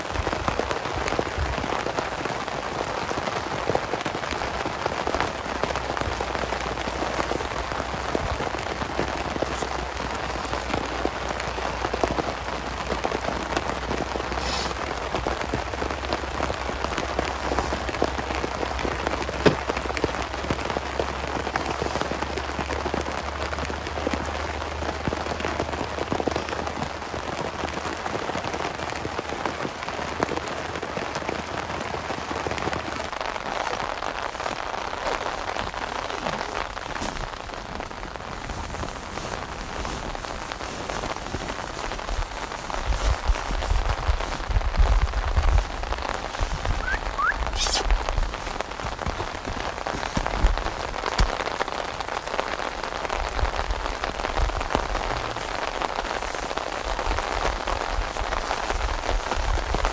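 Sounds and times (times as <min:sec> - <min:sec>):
heavy rain on a tarp: 0:00.0 - 0:59.9.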